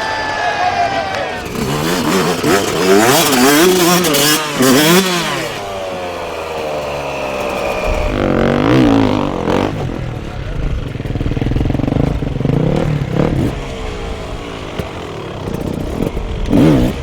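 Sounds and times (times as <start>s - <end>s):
dirt bike engine revving: 1.2s - 17.0s.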